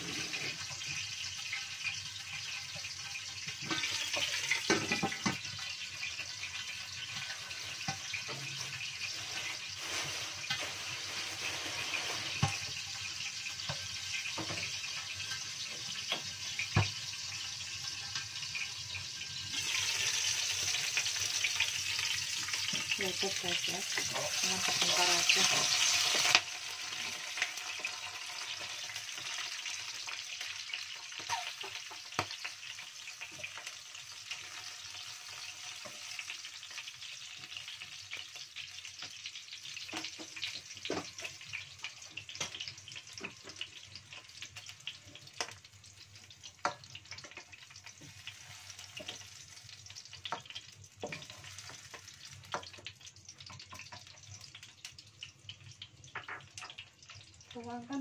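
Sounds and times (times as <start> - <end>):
chillies sizzling in hot oil: 0.0 - 58.0.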